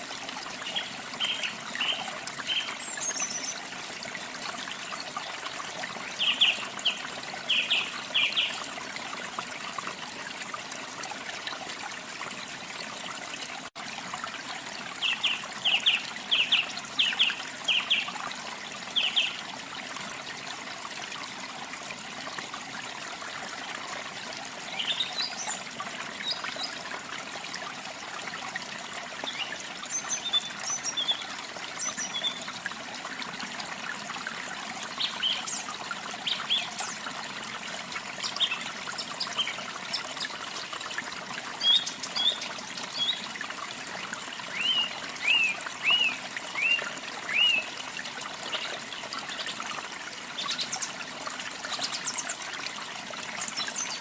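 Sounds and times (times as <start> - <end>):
trickling water: 0.0 - 54.0.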